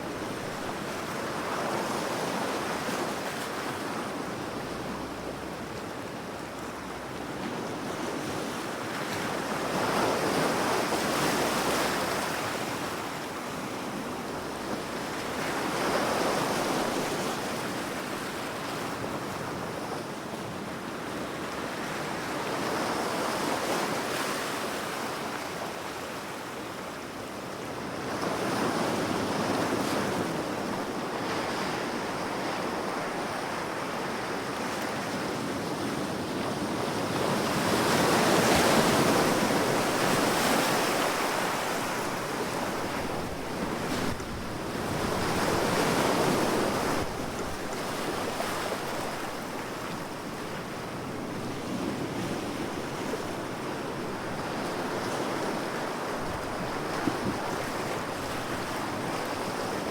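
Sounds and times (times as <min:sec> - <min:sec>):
waves washing in and back: 0:00.0 - 0:59.9.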